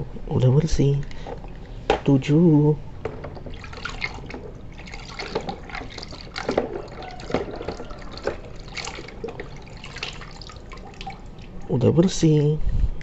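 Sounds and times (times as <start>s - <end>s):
water splashing in plastic tub: 0.9s - 12.6s.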